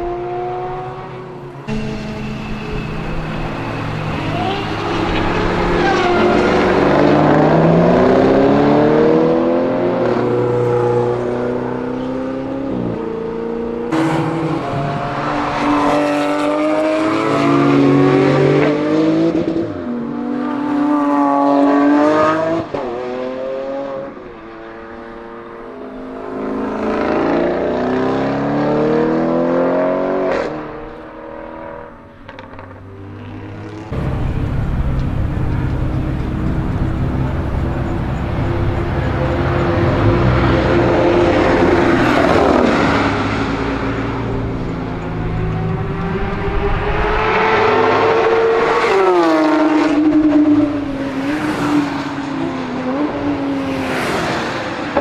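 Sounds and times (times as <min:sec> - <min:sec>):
car engines accelerating hard: 0:00.0 - 0:55.0.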